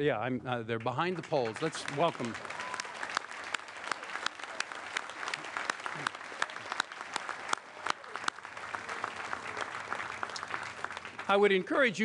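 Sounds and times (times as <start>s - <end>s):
audience applauding: 0.8s - 11.7s.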